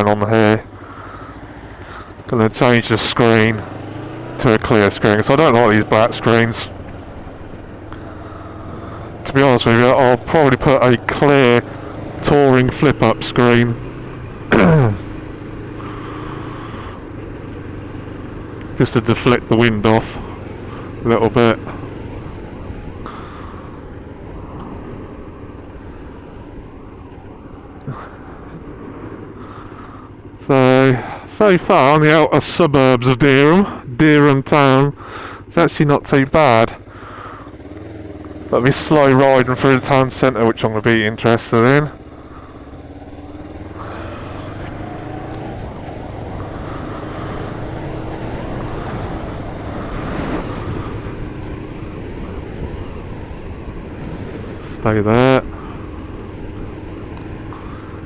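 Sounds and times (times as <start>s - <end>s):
motorcycle running: 0.0s - 58.0s
wind and road noise: 0.0s - 58.0s.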